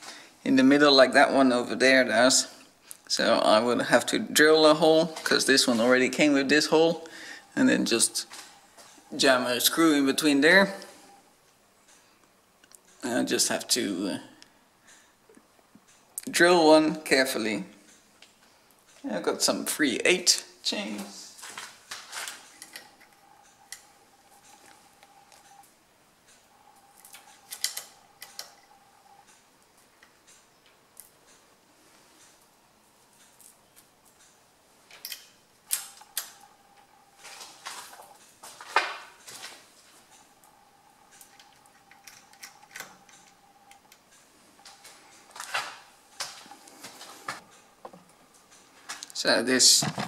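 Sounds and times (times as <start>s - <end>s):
faint steady whine: 0.0s - 50.0s.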